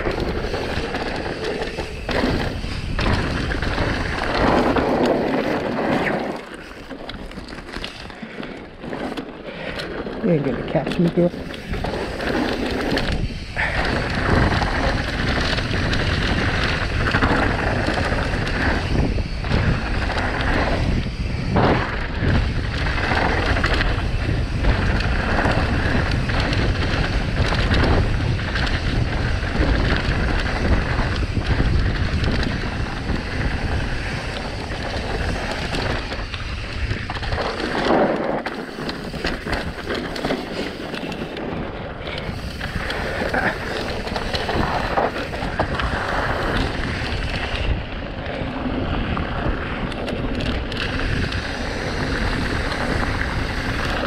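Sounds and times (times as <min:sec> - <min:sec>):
tyres rolling on dirt: 0:00.0 - 0:54.0
wind buffeting microphone: 0:00.0 - 0:54.0.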